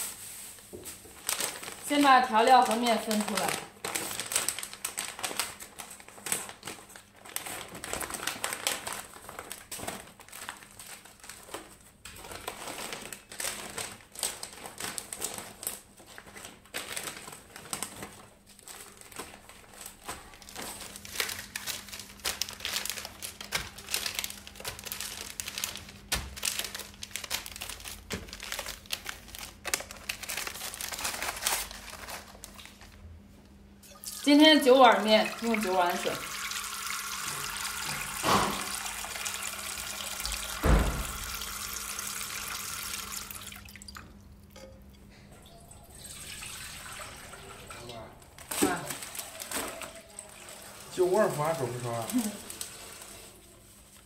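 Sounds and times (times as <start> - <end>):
plastic packaging crinkling: 0.0 - 33.1, 34.7 - 44.0, 45.4 - 54.0.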